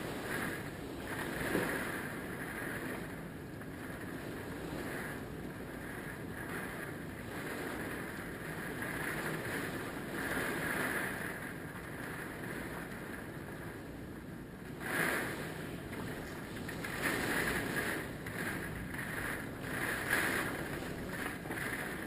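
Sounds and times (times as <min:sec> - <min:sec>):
hurricane wind gusting: 0:00.0 - 0:22.0
wind buffeting microphone: 0:00.0 - 0:22.0.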